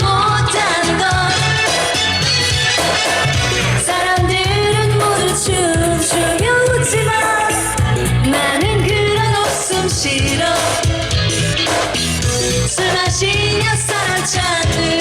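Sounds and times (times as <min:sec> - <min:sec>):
band with steady bass beat: 0:00.0 - 0:15.0
person singing pop song: 0:00.0 - 0:15.0.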